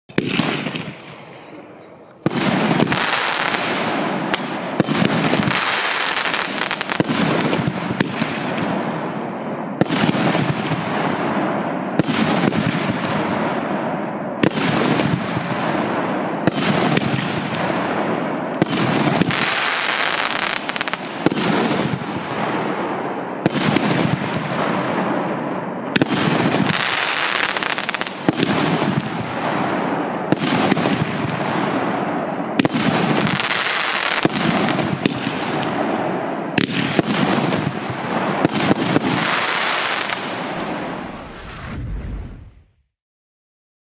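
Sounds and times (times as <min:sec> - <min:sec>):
firework bangs: 0:00.1 - 0:42.7
firework crackle: 0:02.1 - 0:42.9.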